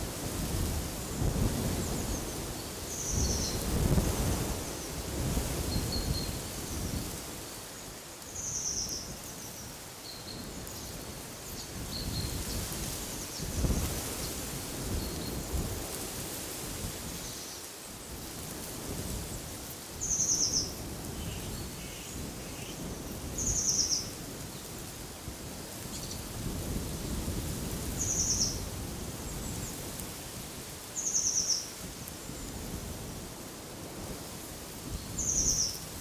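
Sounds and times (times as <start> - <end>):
wind blowing: 0.0 - 36.0.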